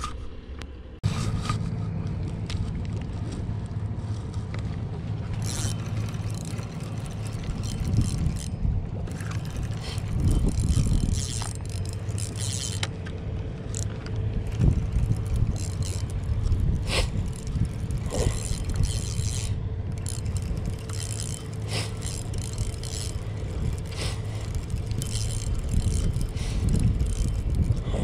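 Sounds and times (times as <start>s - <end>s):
wind rumble on microphone: 0.0s - 28.0s
reel sharp ticks: 5.2s - 27.9s
fishing reel gears whirring: 5.2s - 28.0s.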